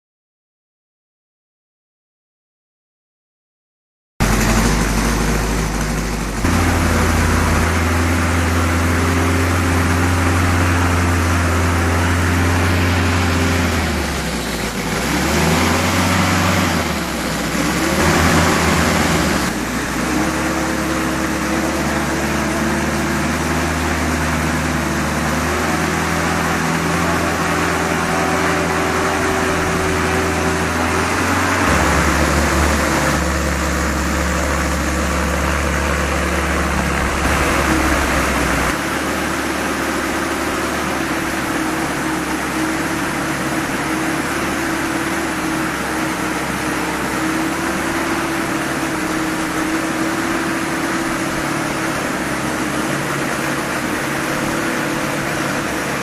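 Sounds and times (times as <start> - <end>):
radial model engine running: 4.2 - 56.0.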